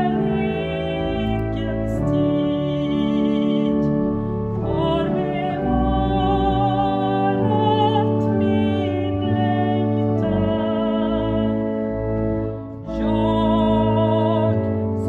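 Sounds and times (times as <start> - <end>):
woman singing with vibrato: 0.0 - 3.9, 4.7 - 11.6, 12.9 - 15.0
church organ chords: 0.0 - 15.0.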